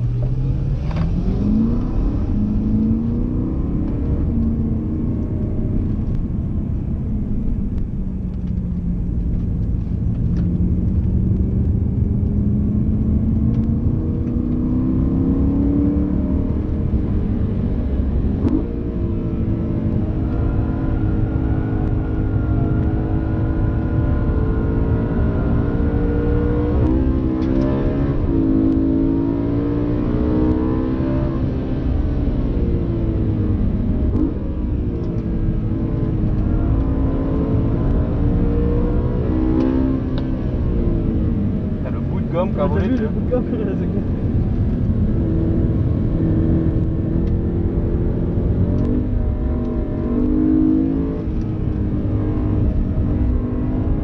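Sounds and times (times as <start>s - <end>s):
car engine revving in cabin: 0.0s - 54.0s.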